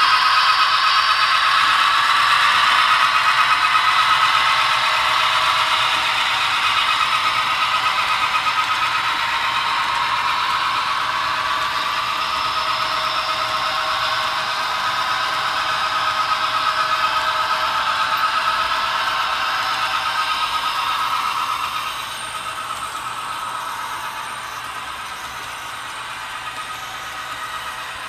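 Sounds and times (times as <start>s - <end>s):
model train cars rattling on track: 0.0s - 28.0s.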